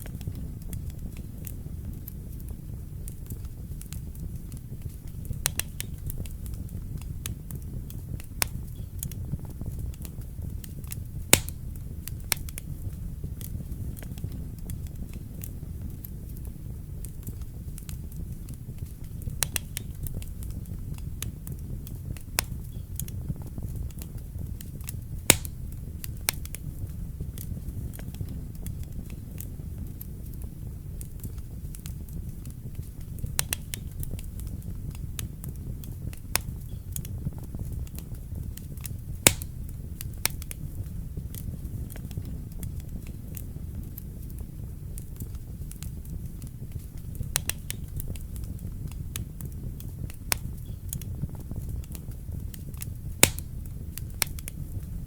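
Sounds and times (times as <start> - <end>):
burning logs crackling and popping: 0.0 - 55.0
fire flames rumbling: 0.0 - 55.0.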